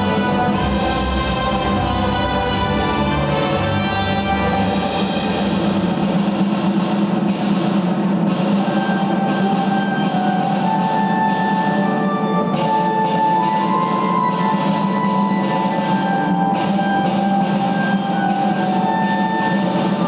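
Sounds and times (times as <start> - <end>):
music with long held notes: 0.0 - 20.0.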